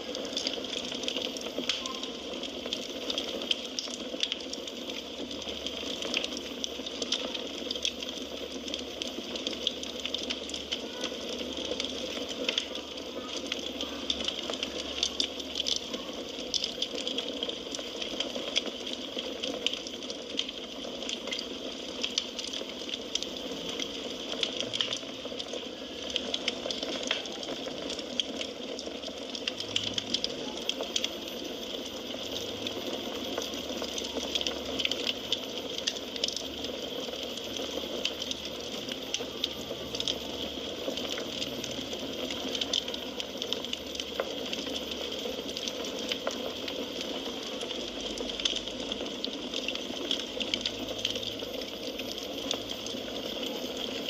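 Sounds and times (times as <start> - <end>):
firewood burning and crackling: 0.0 - 54.0.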